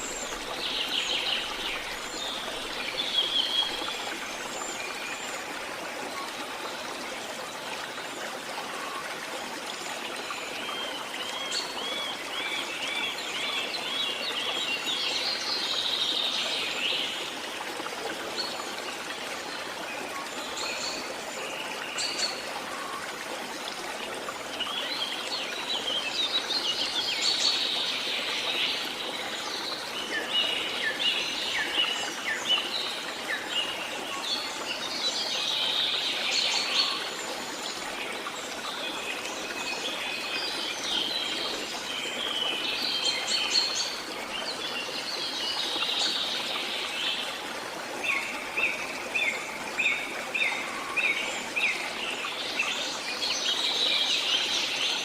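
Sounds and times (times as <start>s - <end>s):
flowing stream: 0.0s - 55.0s.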